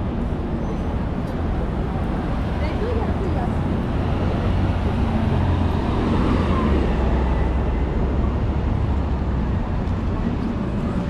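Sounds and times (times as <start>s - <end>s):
passing vehicle engines: 0.0s - 11.0s.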